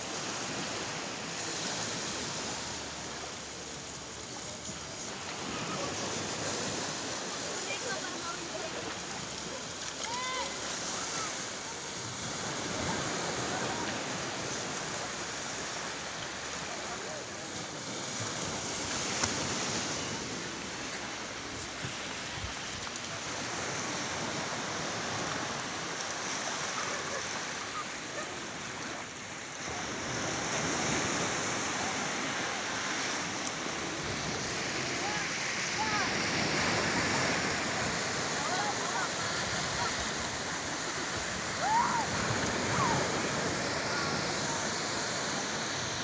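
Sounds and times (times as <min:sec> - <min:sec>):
surf washing onto beach: 0:00.0 - 0:46.0.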